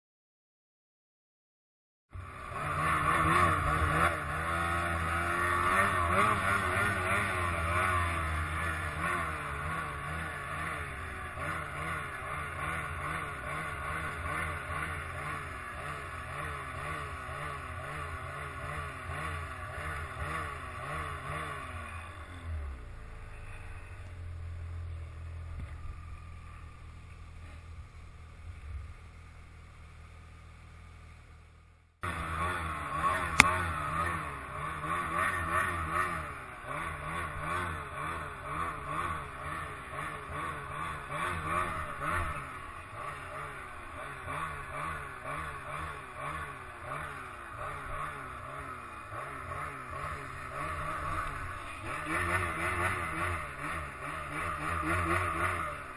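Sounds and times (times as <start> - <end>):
snowmobile engine revving: 2.2 - 26.2, 32.0 - 55.9.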